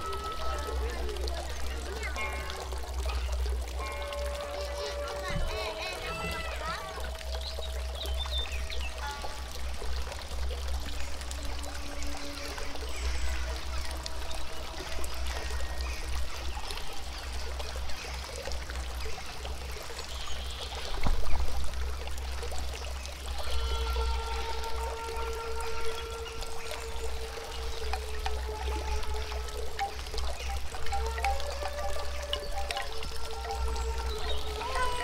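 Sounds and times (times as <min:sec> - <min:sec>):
soft held musical tones: 0:00.0 - 0:35.0
stream trickling: 0:00.0 - 0:35.0.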